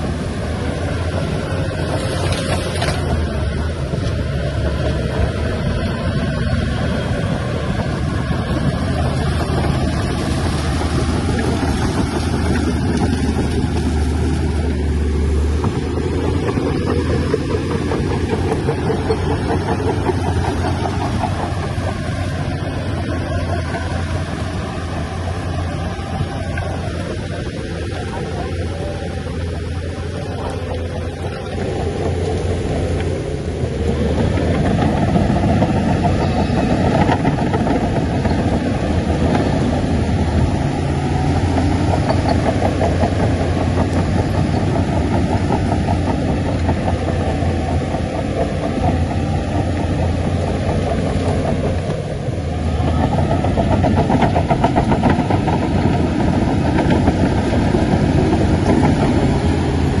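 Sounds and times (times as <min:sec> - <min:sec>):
heavy diesel engine under load: 0:00.0 - 1:00.0.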